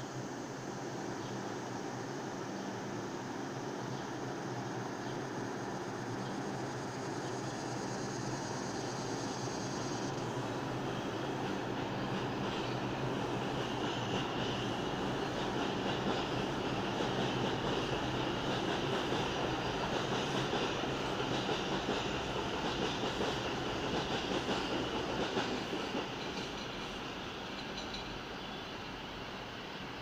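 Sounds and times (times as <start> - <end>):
subway train wheel and rail noise: 0.0 - 30.0.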